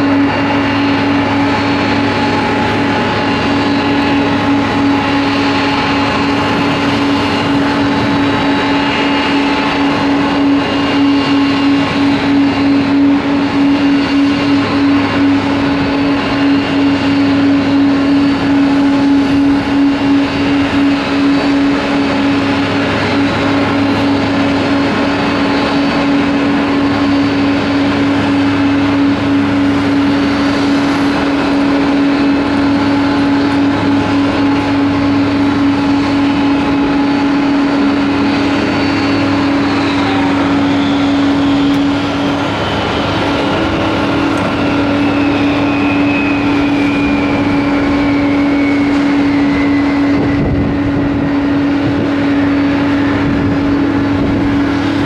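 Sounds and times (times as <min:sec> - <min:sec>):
jet airliner engines whining: 0:00.0 - 0:55.0.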